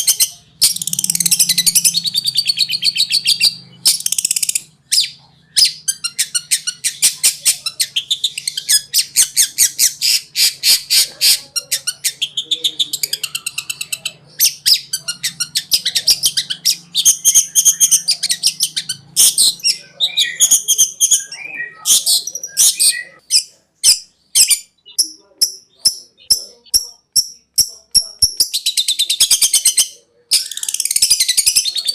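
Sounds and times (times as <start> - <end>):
bird chattering song: 0.0 - 31.9
faint low hum: 0.0 - 31.9.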